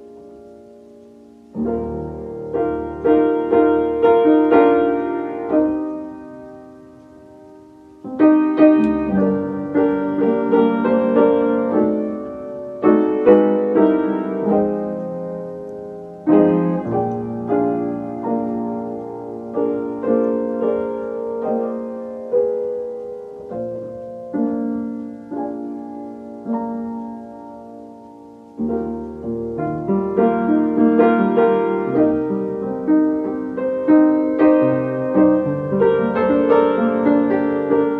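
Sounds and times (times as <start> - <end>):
slow gentle piano music: 0.0 - 37.9.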